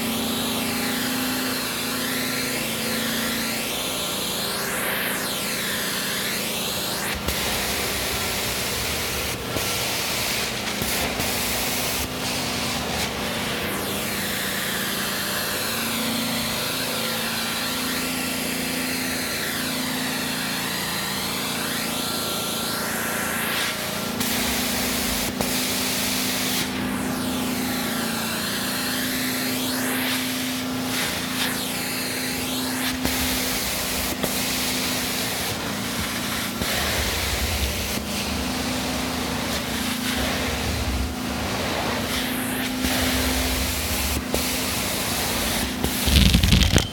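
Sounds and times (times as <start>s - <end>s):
carpet cleaner suction and spray: 0.0s - 46.9s.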